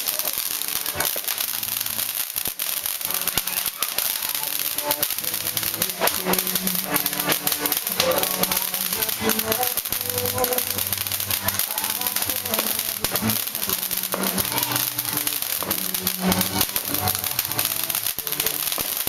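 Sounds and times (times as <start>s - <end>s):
firework hissing and crackling: 0.0s - 19.0s
music: 0.0s - 19.0s.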